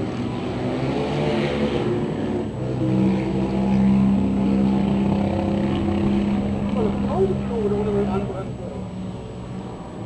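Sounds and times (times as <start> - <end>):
racing quad engines running: 0.0 - 10.0.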